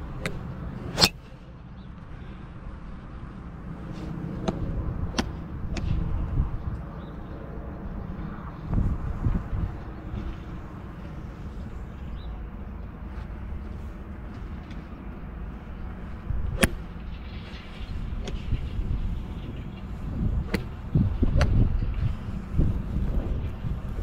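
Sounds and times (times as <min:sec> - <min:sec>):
wind rumbling on microphone: 0:02.2 - 0:24.0.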